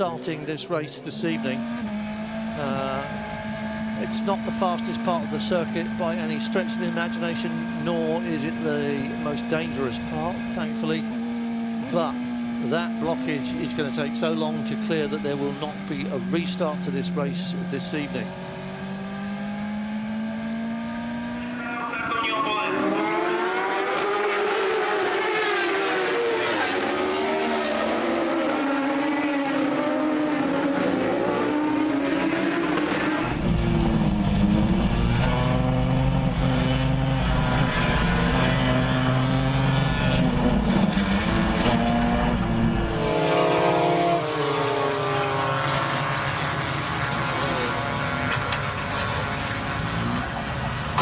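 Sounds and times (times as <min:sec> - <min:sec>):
racing motorcycle engines whining: 0:00.0 - 0:51.0.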